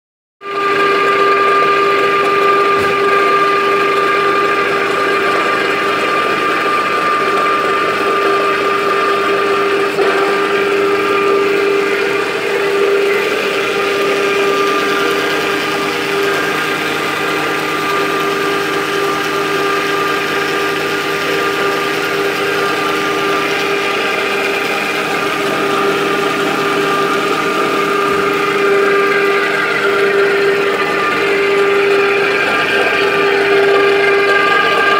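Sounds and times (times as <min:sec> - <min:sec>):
machinery whine and drone: 0:00.5 - 0:34.9.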